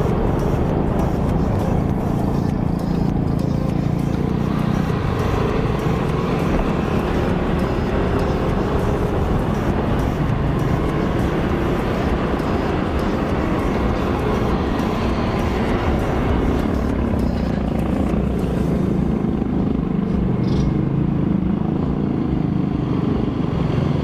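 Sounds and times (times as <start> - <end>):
scooter engine: 0.0 - 22.6
road noise: 0.0 - 24.0.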